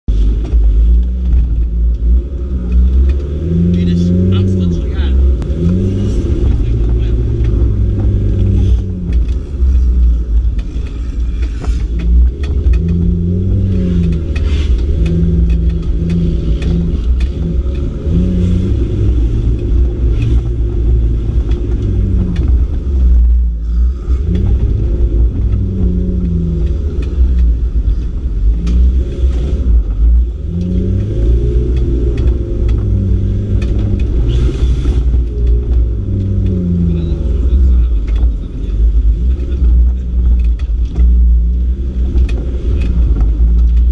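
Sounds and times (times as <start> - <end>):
car engine revving: 0.0 - 43.9
low rumble: 0.1 - 43.9.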